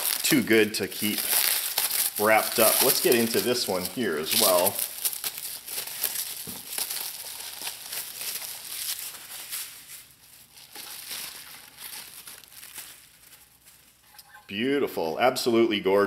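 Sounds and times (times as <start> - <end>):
plastic wrap crinkling: 0.0 - 14.5.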